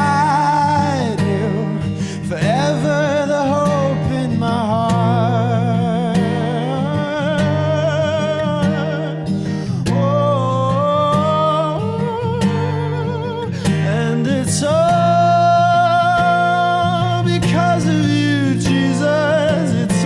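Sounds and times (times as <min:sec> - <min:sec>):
acoustic guitar: 0:00.0 - 0:20.0
wordless singing with vibrato: 0:00.0 - 0:20.0.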